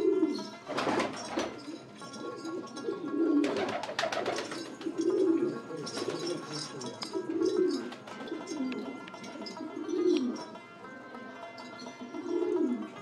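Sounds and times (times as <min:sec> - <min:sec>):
pigeons cooing: 0:00.0 - 0:10.6, 0:12.0 - 0:13.0.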